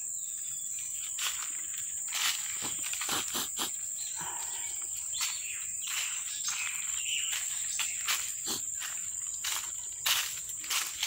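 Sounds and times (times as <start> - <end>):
insects droning: 0.0 - 11.0
footsteps on dry leaves: 0.2 - 11.0.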